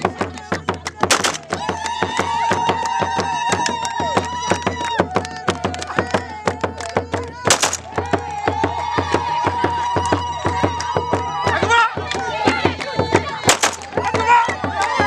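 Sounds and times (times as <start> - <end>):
crowd clapping in rhythm: 0.0 - 15.0.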